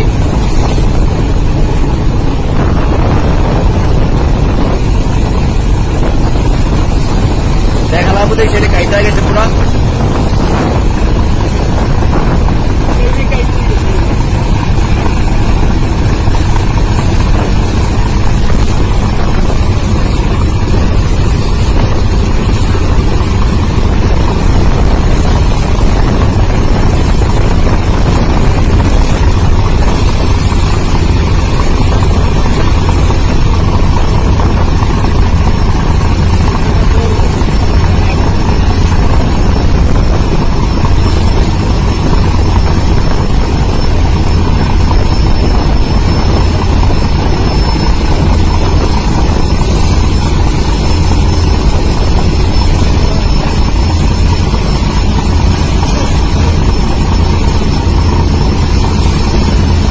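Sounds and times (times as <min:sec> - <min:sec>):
boat engine drone: 0:00.0 - 0:59.9
churning water: 0:00.0 - 0:59.9
wind: 0:00.0 - 0:59.9.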